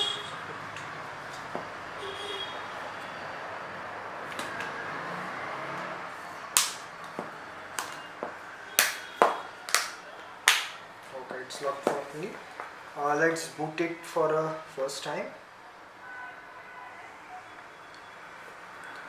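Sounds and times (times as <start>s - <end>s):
faint background noise: 0.0s - 19.0s.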